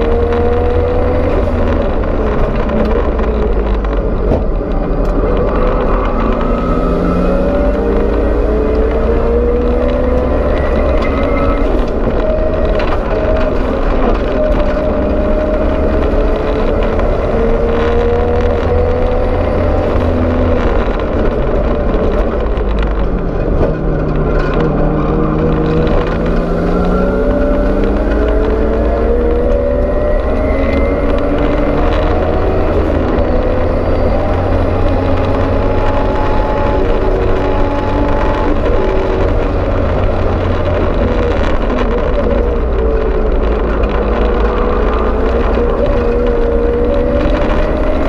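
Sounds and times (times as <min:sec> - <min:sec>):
race car engine at full pace: 0:00.0 - 0:48.0
road and cabin rumble: 0:00.0 - 0:48.0.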